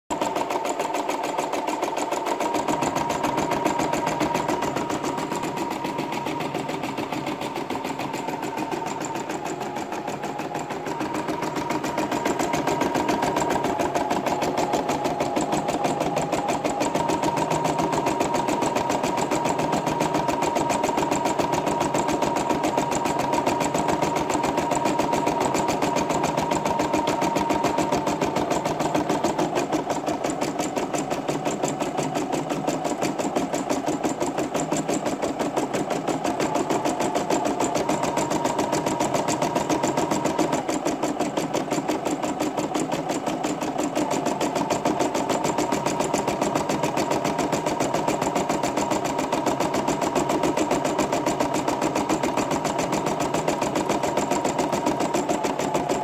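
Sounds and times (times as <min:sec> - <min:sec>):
sewing machine needle stitching: 0:00.1 - 0:56.0.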